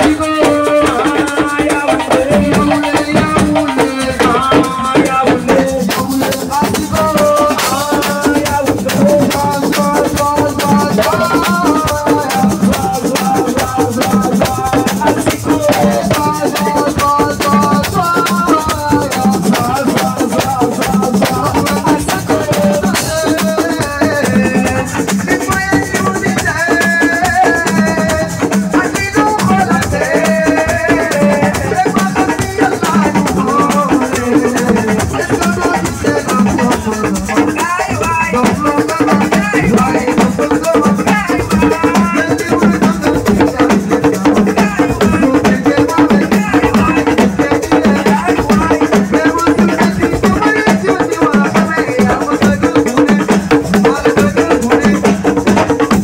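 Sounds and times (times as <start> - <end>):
rattles or shakers: 0.0 - 56.0.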